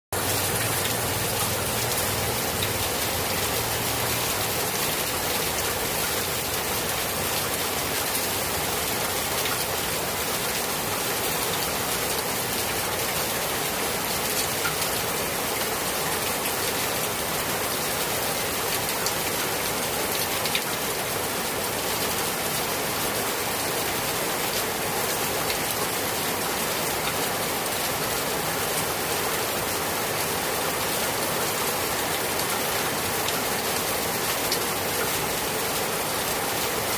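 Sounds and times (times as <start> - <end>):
steady rain hissing: 0.2 - 36.9.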